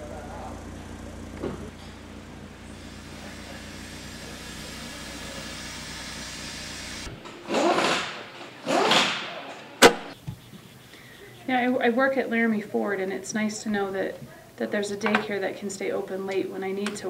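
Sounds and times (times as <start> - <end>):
garage low hum: 0.0 - 17.0.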